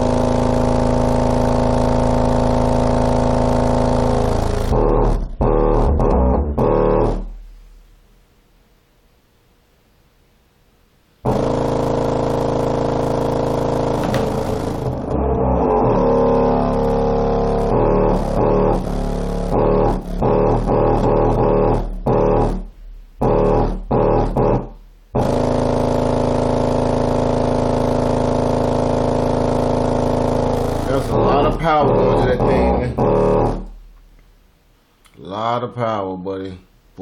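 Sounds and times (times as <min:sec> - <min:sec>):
subwoofer playing loud bass: 0:00.0 - 0:08.2, 0:11.2 - 0:34.2.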